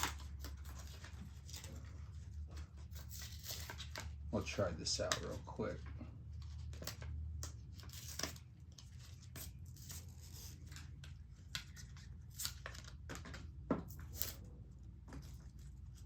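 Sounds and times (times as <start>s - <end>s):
plastic packaging rustling and tearing: 0.0s - 5.7s, 6.4s - 14.6s.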